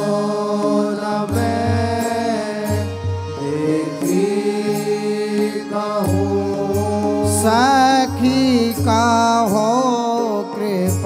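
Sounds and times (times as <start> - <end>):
devotional song: 0.0 - 11.0.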